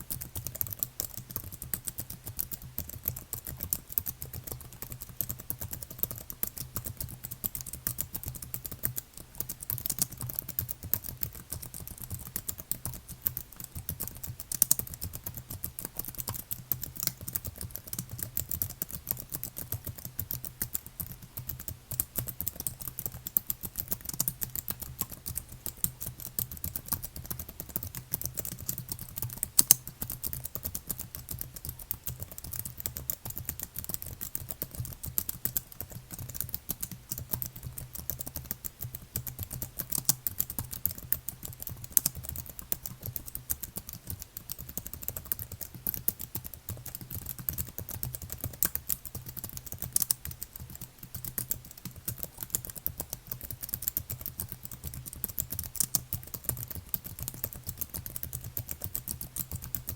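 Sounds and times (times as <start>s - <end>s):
keyboard typing: 0.1s - 59.9s.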